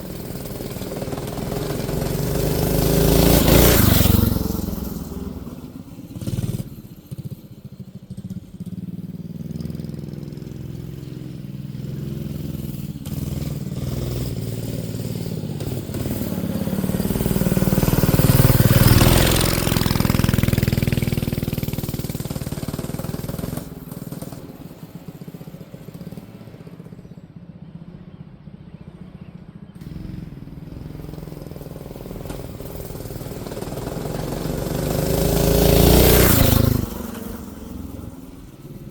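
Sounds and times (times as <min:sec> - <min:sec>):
mini bike engine revving: 0:00.0 - 0:27.2, 0:29.8 - 0:38.9.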